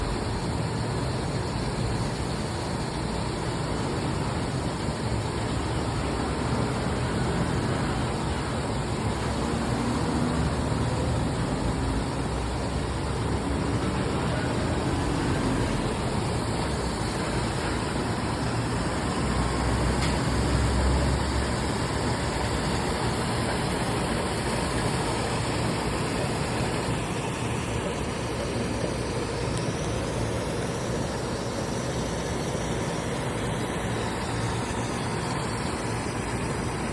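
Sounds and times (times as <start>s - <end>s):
trucks passing on a road: 0.0s - 36.9s.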